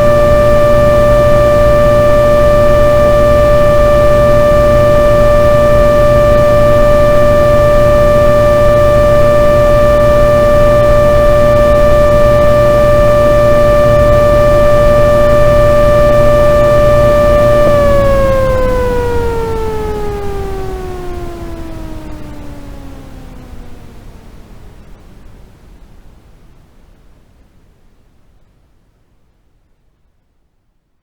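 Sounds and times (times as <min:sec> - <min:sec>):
blower motor whining: 0:00.0 - 0:25.7
blower spinning down: 0:00.0 - 0:26.1.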